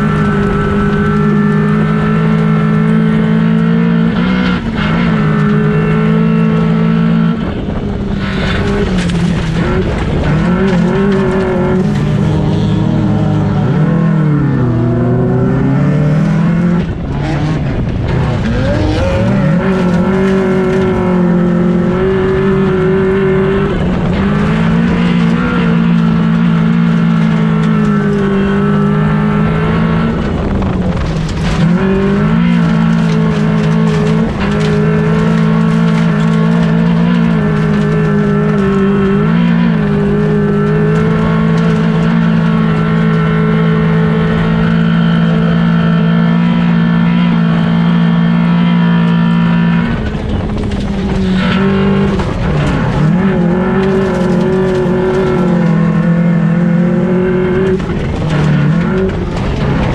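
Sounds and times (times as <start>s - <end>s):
race car engine at high revs: 0.0s - 59.9s
tyres rushing on loose dirt: 0.0s - 59.9s.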